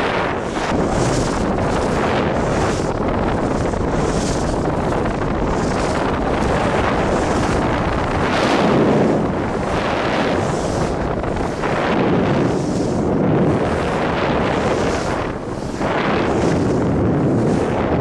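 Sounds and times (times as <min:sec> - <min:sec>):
skis carving snow: 0:00.0 - 0:18.0
wind buffeting microphone: 0:00.0 - 0:18.0.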